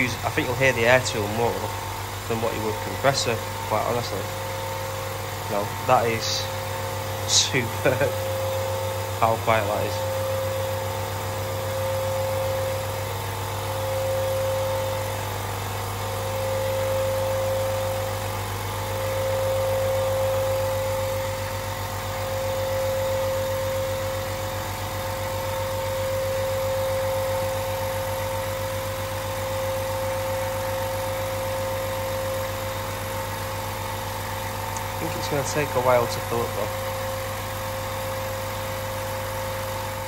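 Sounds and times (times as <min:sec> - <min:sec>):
air compressor humming: 0:00.0 - 0:40.0.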